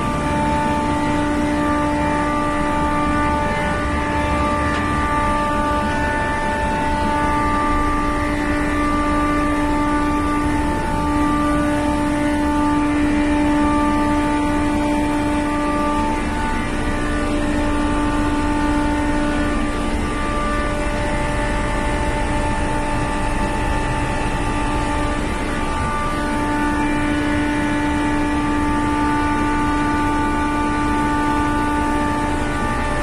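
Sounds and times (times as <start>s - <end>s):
constant whine: 0.0s - 33.0s
electric pumps humming: 0.0s - 33.0s.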